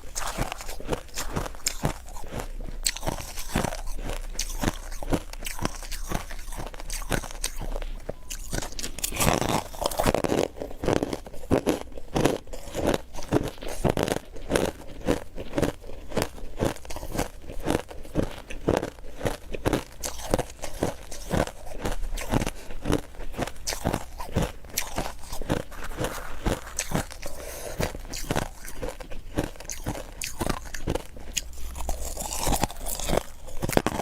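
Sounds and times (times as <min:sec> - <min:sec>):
ice crunching being chewed: 0:00.0 - 0:34.0.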